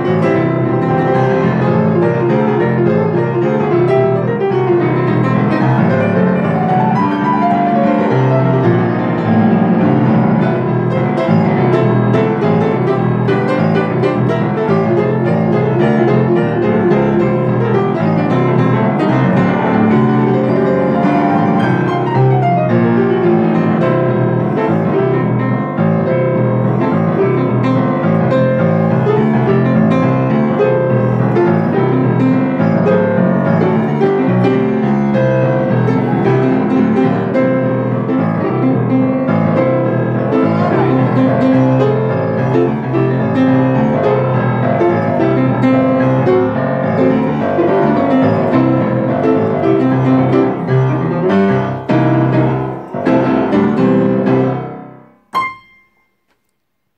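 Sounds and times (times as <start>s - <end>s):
blues piano playing: 0.0s - 56.5s.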